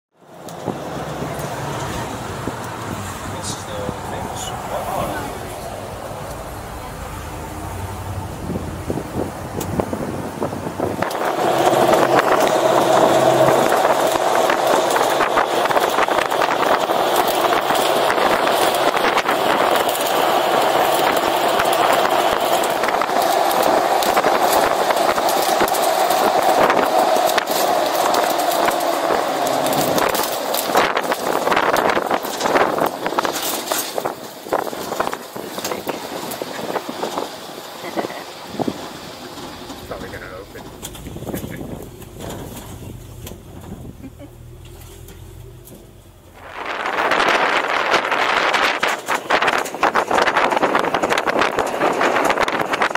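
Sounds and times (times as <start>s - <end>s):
truck engine running: 0.2s - 52.9s
truck body rattling: 0.6s - 52.9s.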